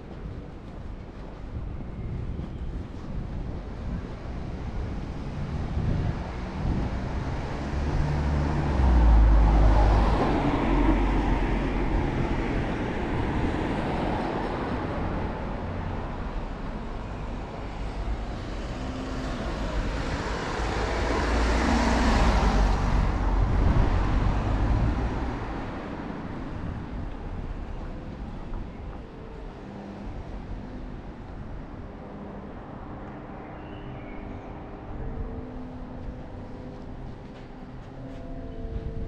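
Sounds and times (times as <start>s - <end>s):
cars passing: 3.8s - 39.0s.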